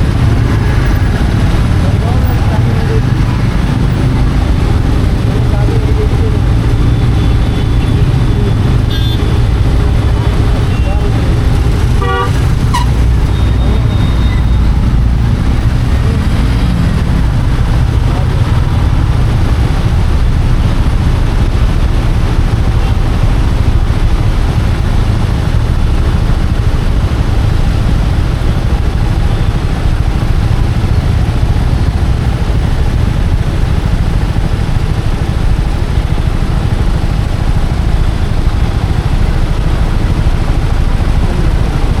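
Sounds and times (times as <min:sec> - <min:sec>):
motorcycle engine: 0:00.0 - 0:42.0
road noise: 0:00.0 - 0:42.0.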